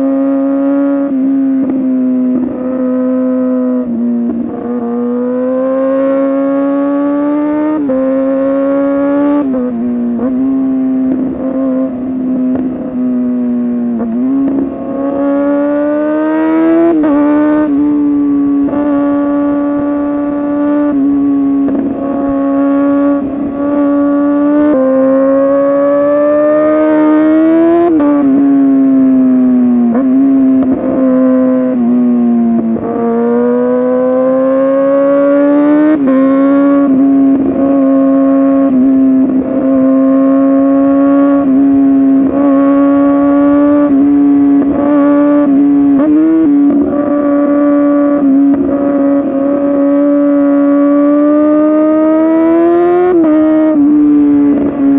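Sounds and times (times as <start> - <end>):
motorcycle engine revving high: 0.0 - 54.9.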